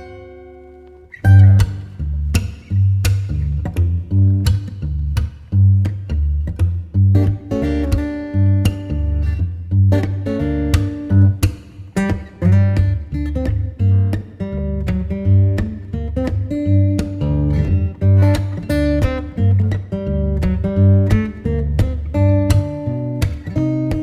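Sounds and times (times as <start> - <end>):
acoustic guitar strumming: 0.0 - 24.0
steady bass: 1.3 - 24.0.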